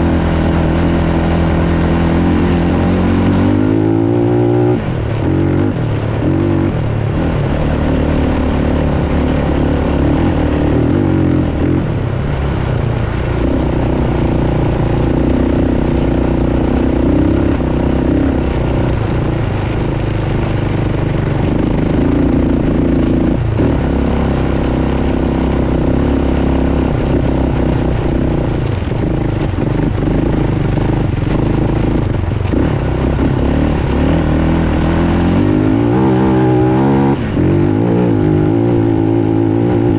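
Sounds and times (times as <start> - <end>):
off-road vehicle engine running hard: 0.0 - 39.9.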